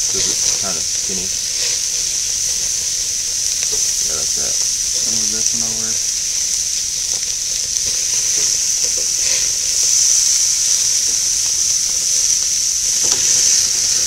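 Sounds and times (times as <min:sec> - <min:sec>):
steaks sizzling on a grill: 0:00.0 - 0:14.0.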